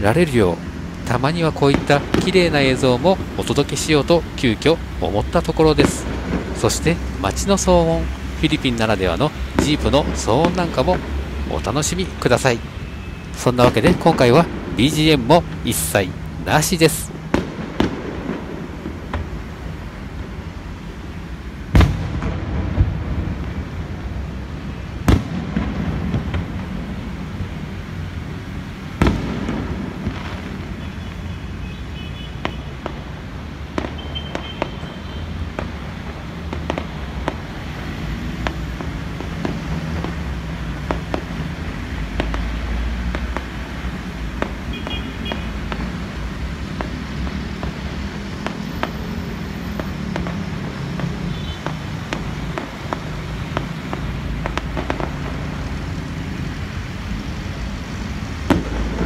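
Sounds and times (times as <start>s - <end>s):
fireworks bursting and crackling: 0.0s - 59.0s
low rumble of street traffic: 0.0s - 59.0s.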